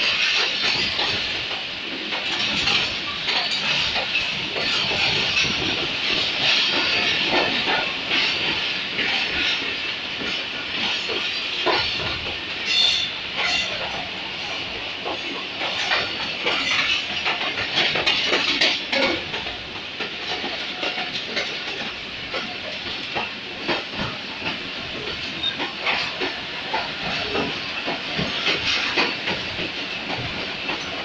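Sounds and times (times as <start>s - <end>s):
train wheels clattering over rails: 0.0s - 31.0s.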